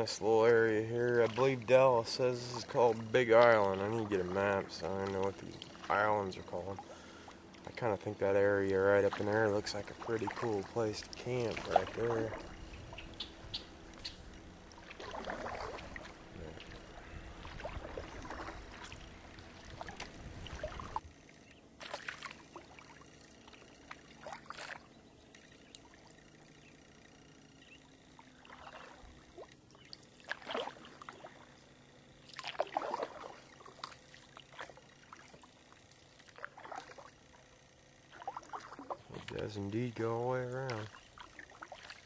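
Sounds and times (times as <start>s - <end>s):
paddle strokes splashing in water: 0.0s - 26.4s, 28.0s - 42.0s.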